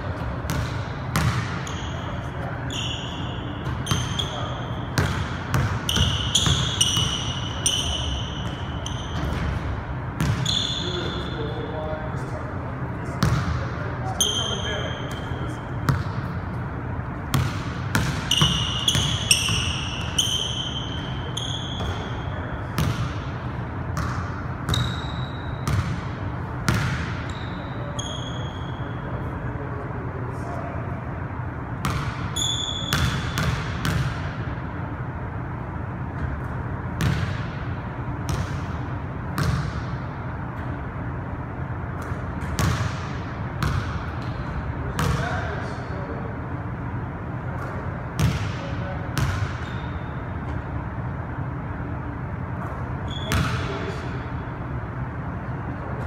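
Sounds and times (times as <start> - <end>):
sneakers squeaking on court: 0.0 - 12.0, 13.1 - 29.7, 31.8 - 34.6, 36.1 - 40.8, 41.8 - 45.5, 47.6 - 50.8, 52.0 - 54.7.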